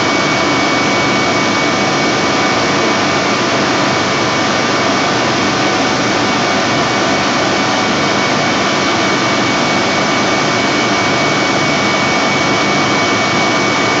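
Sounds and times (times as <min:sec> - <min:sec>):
steady high whine: 0:00.0 - 0:14.0
turbocompressor air rush: 0:00.0 - 0:14.0.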